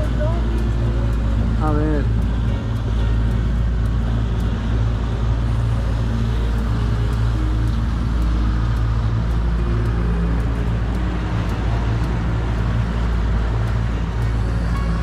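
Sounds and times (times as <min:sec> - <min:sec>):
boat motor running: 0:00.0 - 0:15.0
water noise: 0:00.0 - 0:15.0
wind: 0:00.0 - 0:15.0.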